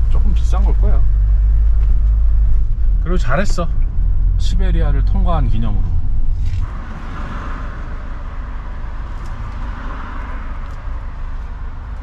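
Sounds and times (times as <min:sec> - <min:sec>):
hiss and hum of traffic: 0:00.0 - 0:12.0
road rumble inside van: 0:00.0 - 0:12.0.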